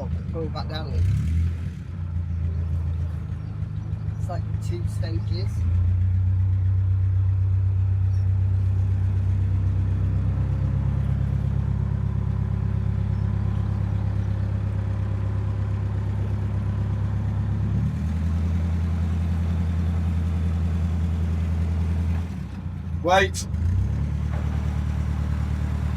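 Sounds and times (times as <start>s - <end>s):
boat engine running: 0.0s - 25.9s.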